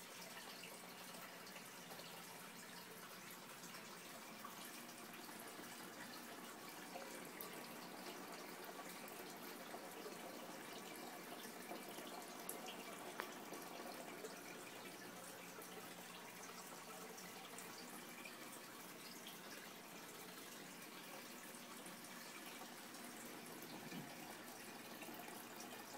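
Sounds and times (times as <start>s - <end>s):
aquarium water trickling: 0.0s - 25.9s.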